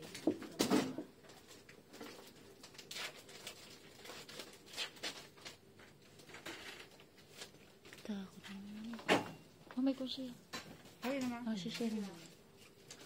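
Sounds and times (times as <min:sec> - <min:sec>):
rustling of dressing supplies: 0:00.0 - 0:13.0.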